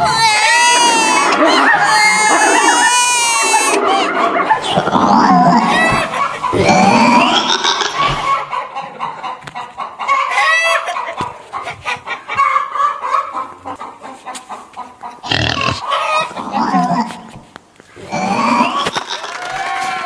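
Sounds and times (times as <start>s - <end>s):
chicken clucking and squawking: 0.0s - 20.0s.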